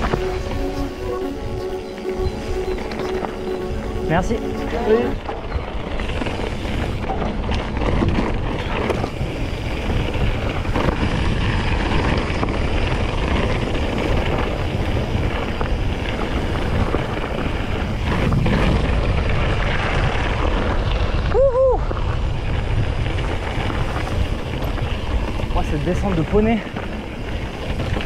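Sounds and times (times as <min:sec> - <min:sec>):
tyres rumbling on rough trail: 0:00.0 - 0:28.0
wind rushing over microphone: 0:00.0 - 0:28.0.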